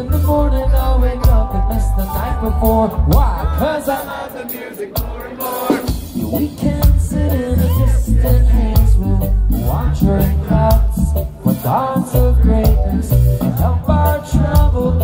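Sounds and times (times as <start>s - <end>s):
live reggae band: 0.0s - 15.0s
person singing: 0.0s - 15.0s.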